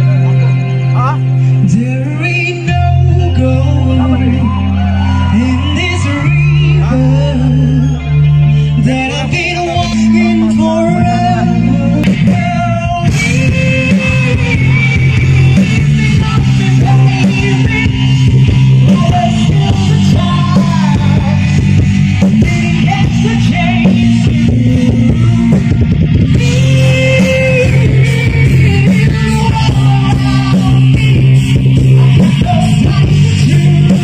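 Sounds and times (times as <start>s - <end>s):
live rock band playing: 0.0s - 34.0s
man singing: 0.0s - 34.0s.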